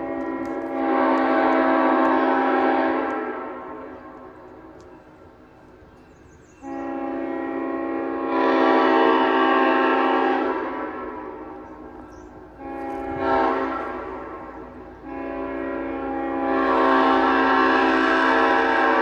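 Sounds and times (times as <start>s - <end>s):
train horn chord blasts: 0.0s - 4.4s, 6.6s - 19.0s.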